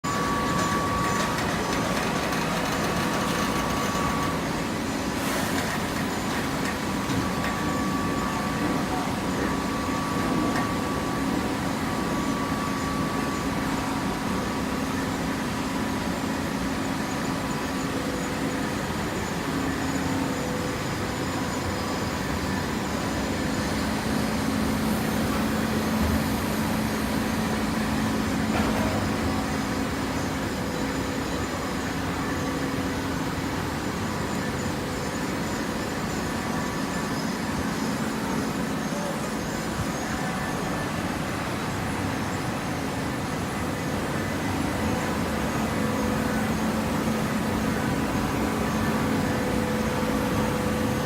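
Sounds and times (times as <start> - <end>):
machinery hum: 0.0 - 51.0.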